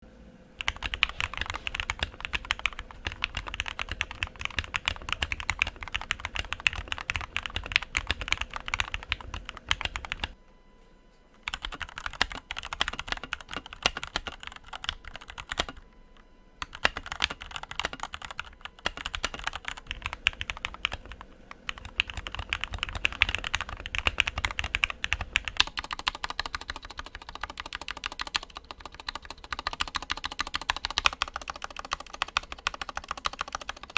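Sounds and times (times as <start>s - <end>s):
fast typing on mechanical keyboard: 0.6s - 10.4s, 11.4s - 15.8s, 16.6s - 33.9s.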